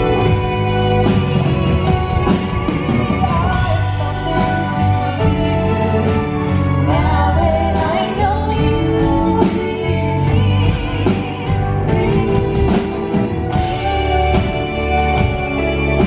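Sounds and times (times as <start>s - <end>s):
live band with piano and drums: 0.0s - 16.0s
woman singing: 0.0s - 16.0s.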